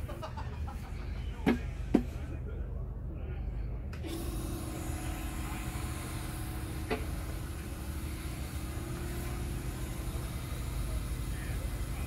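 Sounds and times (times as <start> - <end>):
low rumble with hum: 0.0 - 12.0.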